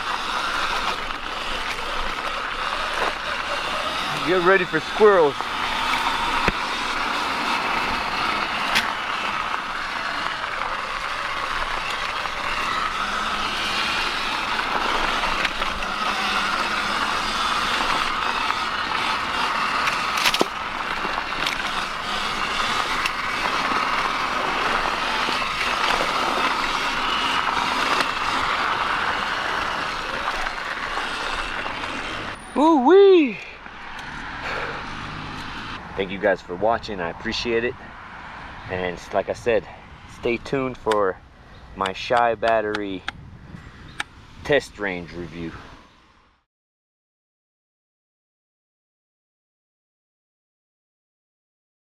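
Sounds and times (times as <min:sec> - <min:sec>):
tyre and wind noise: 0:00.0 - 0:46.0
electric motor and chain whine: 0:00.0 - 0:46.5.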